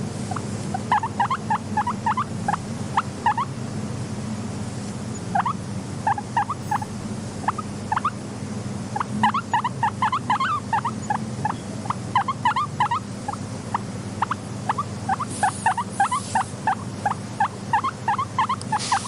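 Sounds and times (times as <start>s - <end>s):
steady low hum: 0.0s - 19.0s
guinea pigs squeaking: 0.3s - 3.5s, 5.1s - 8.2s, 9.0s - 19.0s.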